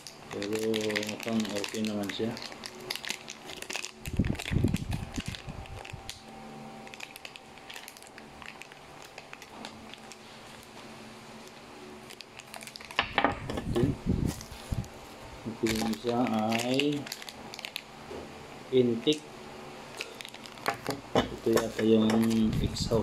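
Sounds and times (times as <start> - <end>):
plastic bag crinkling: 0.0 - 18.0, 19.9 - 23.0.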